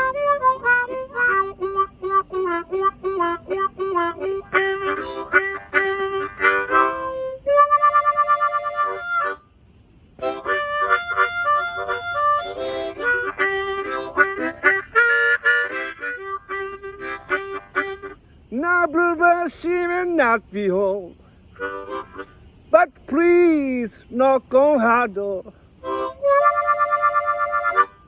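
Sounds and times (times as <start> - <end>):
blues harmonica solo: 0.0 - 9.5, 10.2 - 20.2, 21.5 - 23.4, 25.8 - 28.0.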